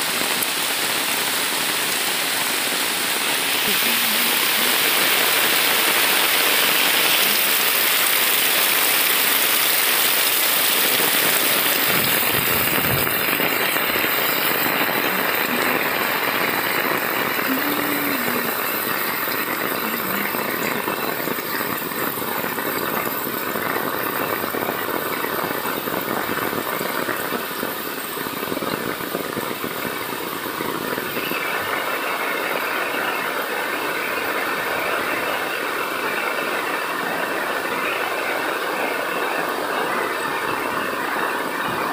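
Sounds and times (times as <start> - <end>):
heavy rain pouring: 0.0 - 41.9
rainwater rushing along ground: 0.0 - 41.9.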